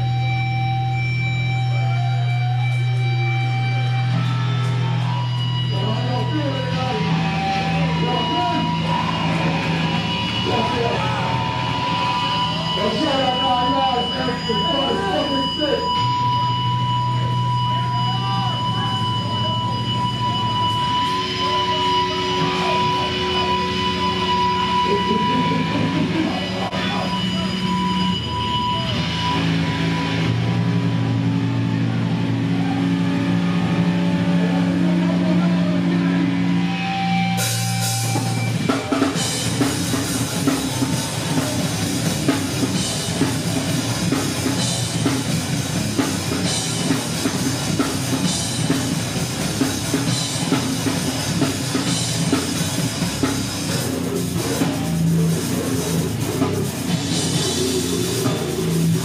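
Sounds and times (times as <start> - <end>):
distorted low guitar notes: 0.0 - 59.0
heavy rock band playing: 0.0 - 59.0
drums and cymbals crashing: 2.4 - 59.0.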